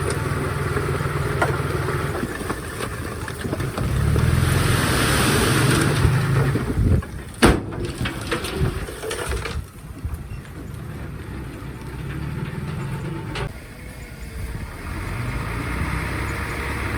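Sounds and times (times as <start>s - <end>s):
bulldozer diesel engine running: 0.0s - 16.9s.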